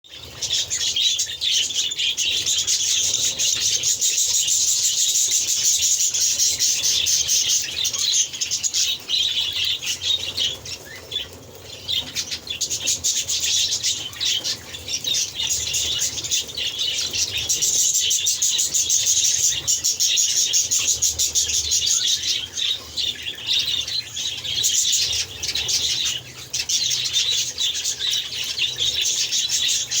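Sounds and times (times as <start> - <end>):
flock of birds chattering: 0.1 - 30.0.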